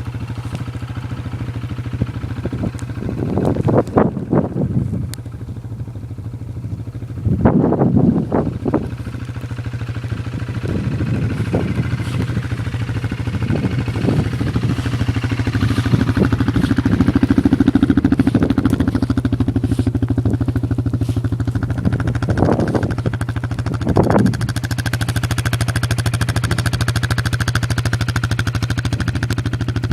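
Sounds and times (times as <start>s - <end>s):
engine and road drone: 0.0s - 29.9s.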